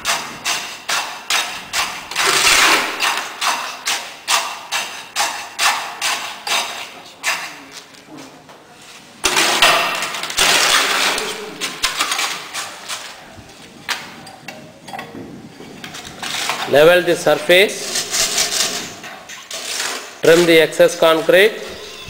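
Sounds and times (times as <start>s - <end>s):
metal and concrete scraping: 0.0s - 22.0s.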